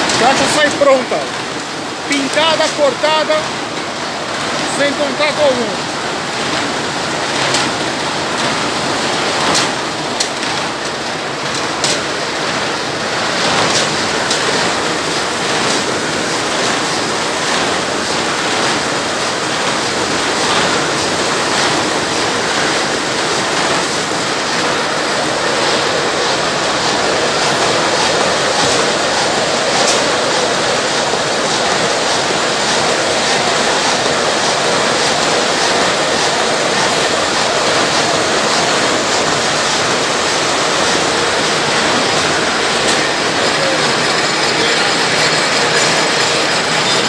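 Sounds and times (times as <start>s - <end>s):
printing machines running: 0.0s - 47.0s.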